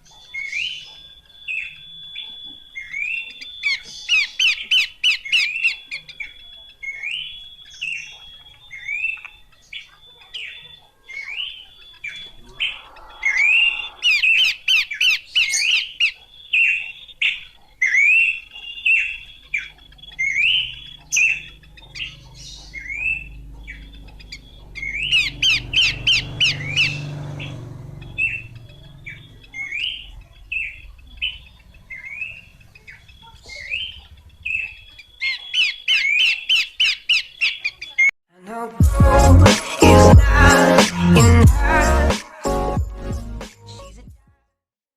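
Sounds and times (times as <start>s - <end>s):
bird chirping and chattering: 0.0s - 38.1s.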